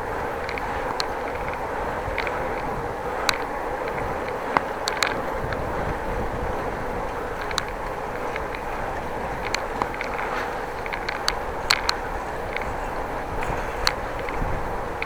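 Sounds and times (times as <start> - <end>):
bicycle rolling: 0.0 - 15.0
sharp ticks or rattles: 0.0 - 15.0
wind noise: 0.0 - 15.0.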